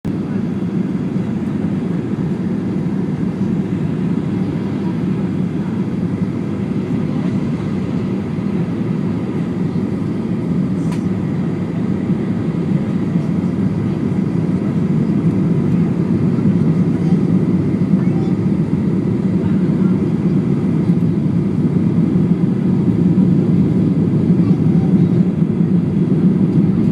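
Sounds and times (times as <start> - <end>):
airplane cabin rumble: 0.0 - 26.9.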